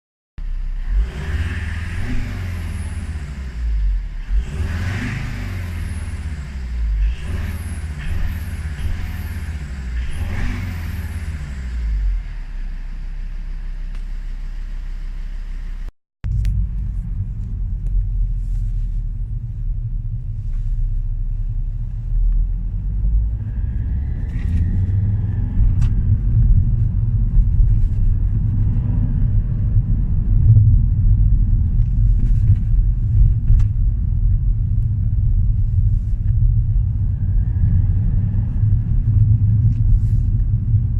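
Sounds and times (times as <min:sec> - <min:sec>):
diesel car engine revving: 0:00.4 - 0:40.9
car engine idling: 0:05.4 - 0:40.9.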